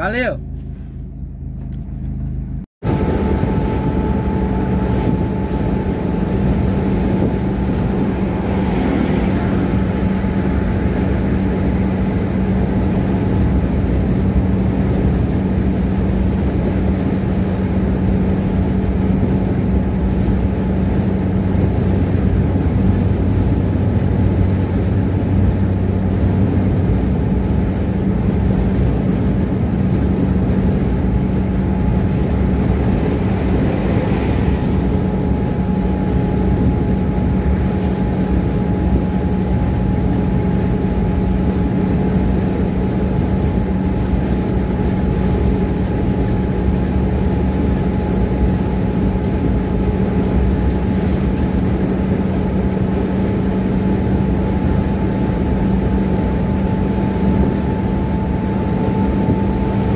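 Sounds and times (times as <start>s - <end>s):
low engine hum: 0.0s - 59.9s
tyre and road noise: 0.0s - 59.9s.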